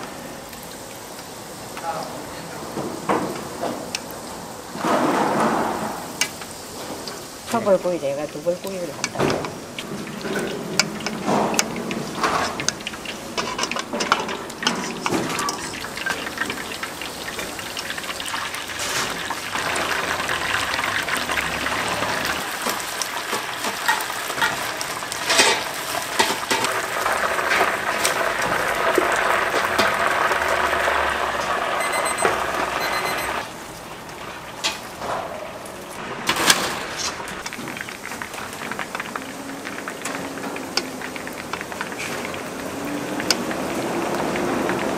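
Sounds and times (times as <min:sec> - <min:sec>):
chicken deep-frying in oil: 0:00.0 - 0:44.9.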